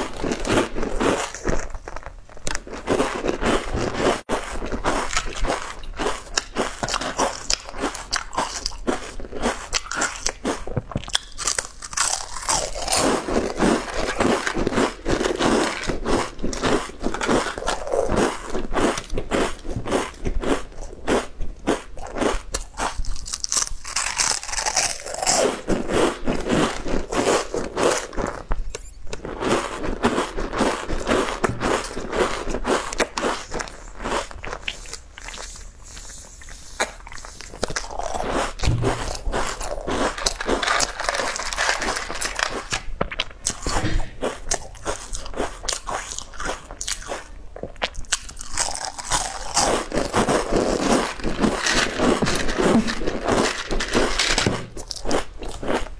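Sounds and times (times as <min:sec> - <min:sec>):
person chewing crisps: 0:00.0 - 0:55.9.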